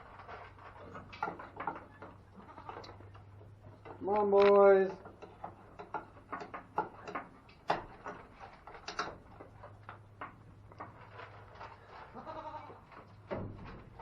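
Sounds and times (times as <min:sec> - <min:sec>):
light knocks and rattles: 0:00.0 - 0:14.0.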